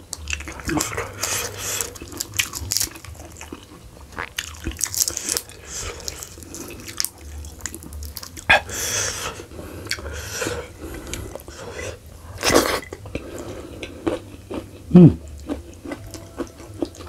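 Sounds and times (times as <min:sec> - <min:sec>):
chewing and wet mouth sounds: 0:00.0 - 0:17.0.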